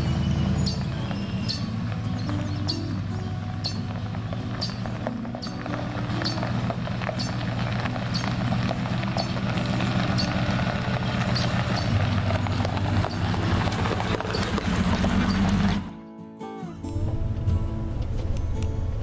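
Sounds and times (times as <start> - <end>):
truck engine driving on gravel: 0.0 - 16.0, 16.8 - 19.0
background music with steady beat: 0.0 - 19.0.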